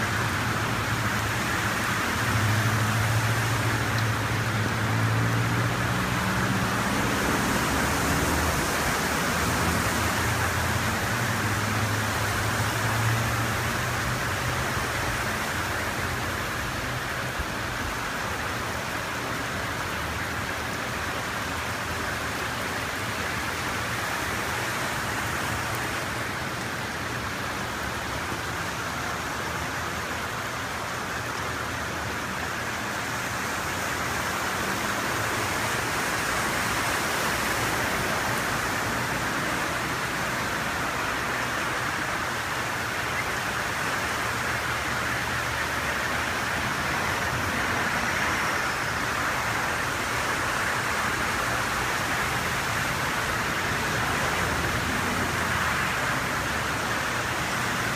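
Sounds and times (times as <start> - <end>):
heavy rain and rushing floodwater: 0.0 - 57.9
vehicle splashing through water: 0.0 - 57.9.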